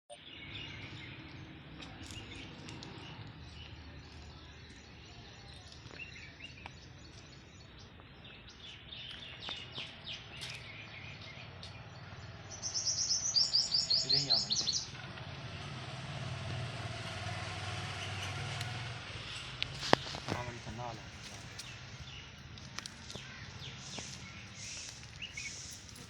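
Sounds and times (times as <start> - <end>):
small birds chirping: 0.1 - 15.8, 17.2 - 26.0.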